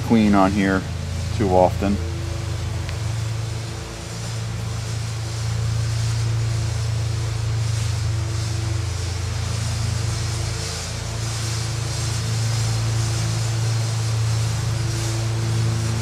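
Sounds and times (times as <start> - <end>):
faint hiss: 0.0 - 16.0
motor humming: 0.0 - 16.0.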